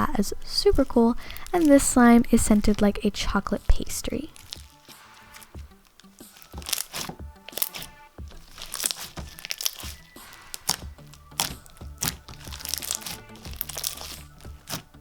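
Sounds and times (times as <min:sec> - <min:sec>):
background music: 0:00.0 - 0:15.0
slime crackling and popping: 0:00.0 - 0:15.0.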